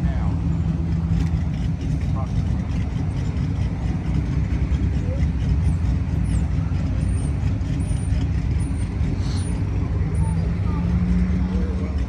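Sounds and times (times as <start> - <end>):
deep engine rumble of traffic: 0.0 - 12.0.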